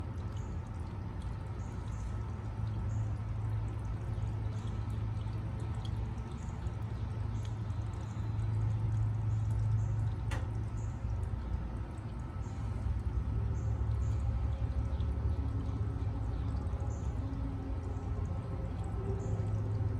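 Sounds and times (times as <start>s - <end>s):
steady low hum: 0.0s - 19.9s
water pouring and dripping: 0.0s - 19.9s.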